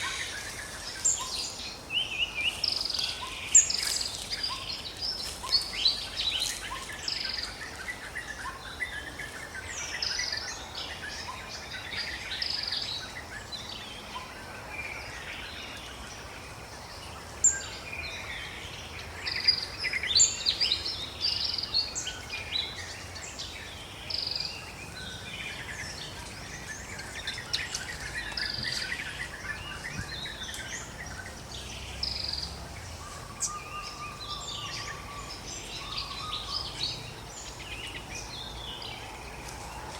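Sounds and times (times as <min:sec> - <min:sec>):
birds chirping and calling: 0:00.0 - 0:39.9
steady background hiss: 0:00.0 - 0:39.9.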